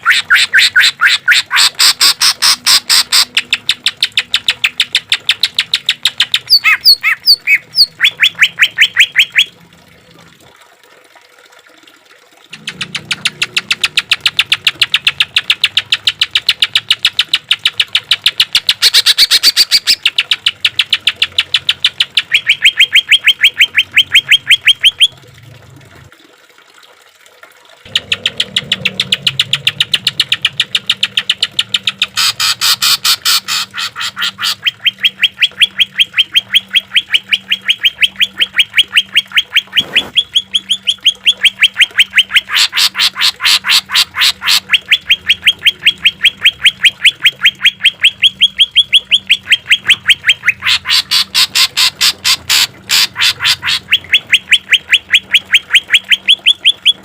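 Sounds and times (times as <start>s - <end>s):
bird singing sharp repeated notes: 0.0s - 9.5s, 12.5s - 25.1s, 27.9s - 57.0s.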